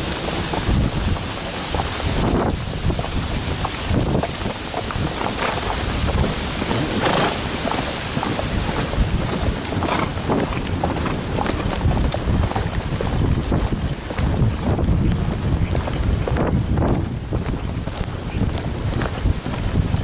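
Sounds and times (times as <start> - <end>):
horse hoofbeats on dirt: 0.0 - 20.0
rain and wind on microphone: 0.0 - 20.0.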